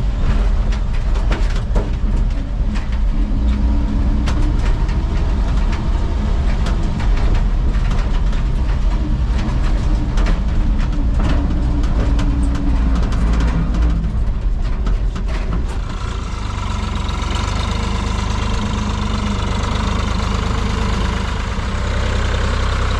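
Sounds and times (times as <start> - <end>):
clunks and rattles: 0.0 - 22.9
truck engine running: 0.0 - 22.9.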